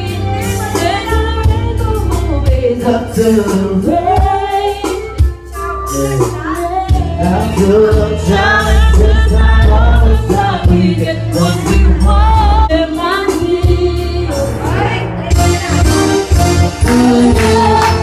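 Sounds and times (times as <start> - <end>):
backing track with heavy bass: 0.0 - 18.0
woman singing karaoke: 0.0 - 18.0.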